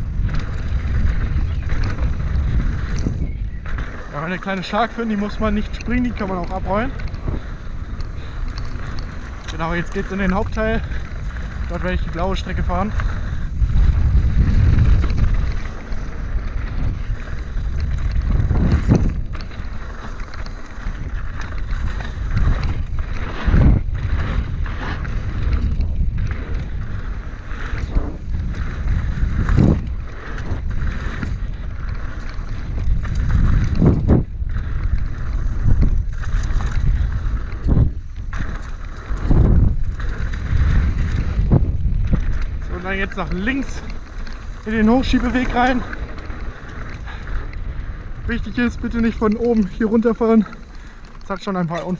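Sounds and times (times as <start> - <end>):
bike knocking and rattling: 0.0 - 51.9
tyre noise on dirt: 0.0 - 51.9
wind roaring over microphone: 0.0 - 51.9.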